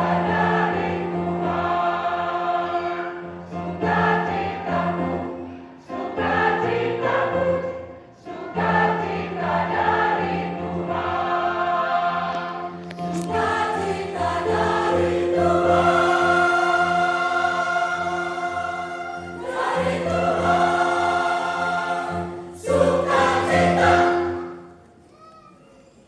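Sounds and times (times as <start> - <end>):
church choir singing: 0.0 - 24.9.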